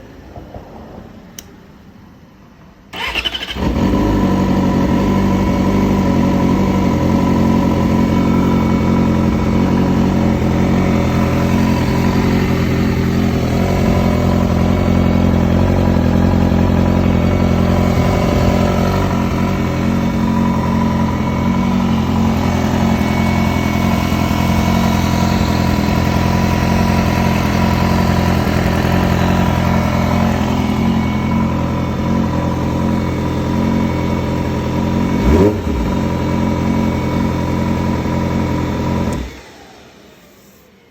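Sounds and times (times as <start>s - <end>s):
engine rattle: 2.9s - 40.0s
engine running: 2.9s - 40.9s.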